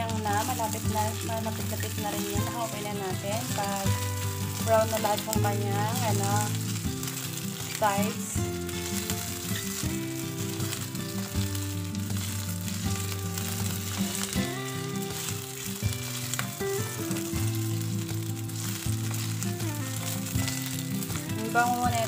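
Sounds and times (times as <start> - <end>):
background music: 0.0 - 22.0
meatballs sizzling in oil: 0.0 - 22.0
spatula turning food: 0.0 - 22.0.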